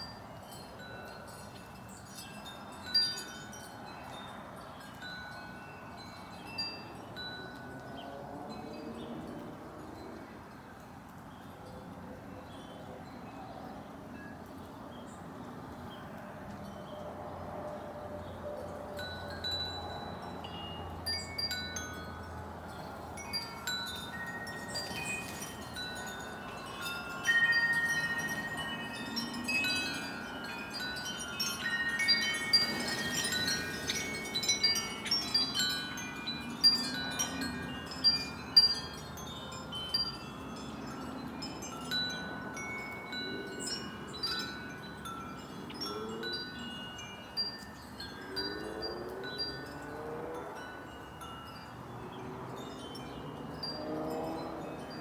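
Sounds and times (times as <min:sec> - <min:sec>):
wind chimes ringing: 0:00.0 - 0:11.0, 0:15.2 - 0:55.0.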